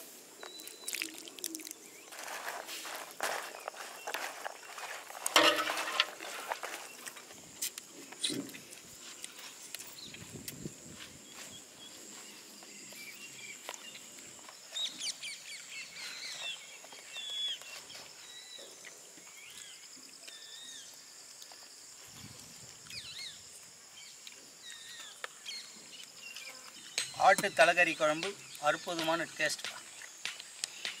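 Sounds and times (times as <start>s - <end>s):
birds chirping: 0.4s - 7.2s, 8.2s - 21.8s, 22.9s - 31.0s
high insect drone: 1.0s - 31.0s.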